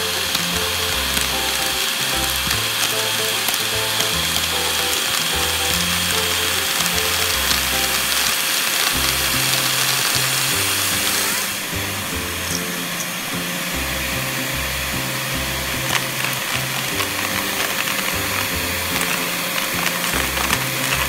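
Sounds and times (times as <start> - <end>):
plastic bricks clicking and rattling: 0.0 - 11.5, 14.8 - 21.0
handheld vacuum whining: 0.0 - 21.0.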